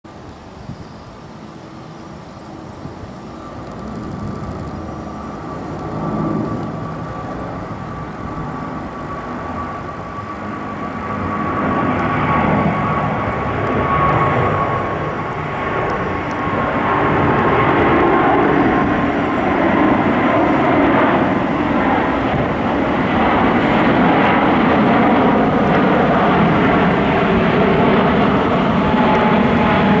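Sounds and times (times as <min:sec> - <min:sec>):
jet engine noise: 0:00.1 - 0:30.0.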